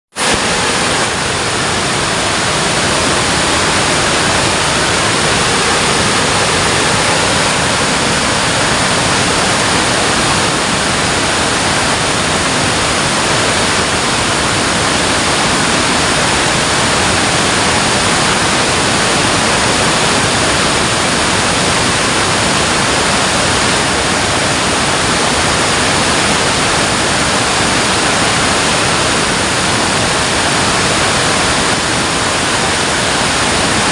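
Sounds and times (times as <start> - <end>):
water rushing at dam: 0.1 - 33.9.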